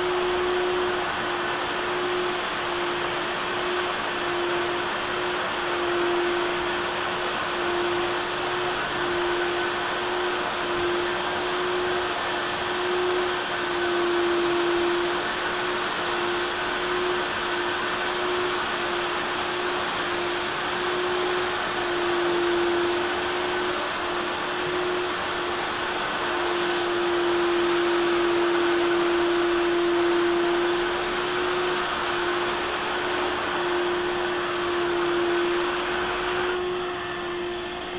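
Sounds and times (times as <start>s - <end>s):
brush scrubbing carpet: 0.2s - 37.9s
floor machine motor humming: 3.3s - 37.9s.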